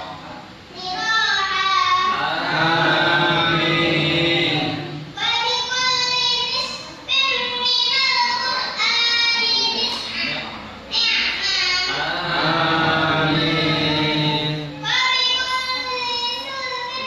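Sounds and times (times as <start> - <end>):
boy chanting into a microphone: 0.9 - 17.0.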